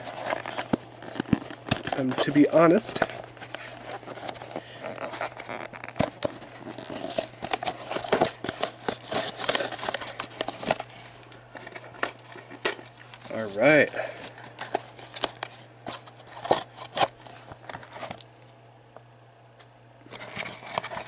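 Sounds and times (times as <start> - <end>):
cardboard crinkling and tearing: 0.0 - 18.2, 20.1 - 21.0.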